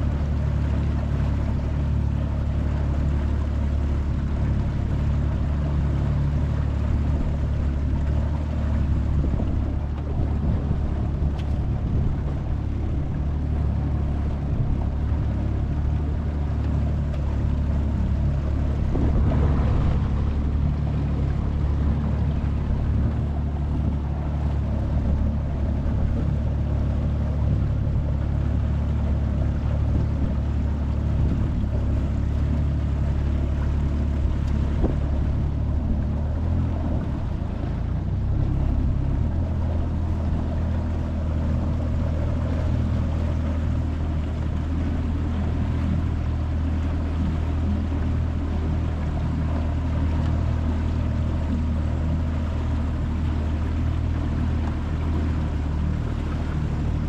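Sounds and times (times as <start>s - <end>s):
outboard motor running: 0.0s - 57.0s
water noise: 0.0s - 57.0s
wind: 0.0s - 57.0s.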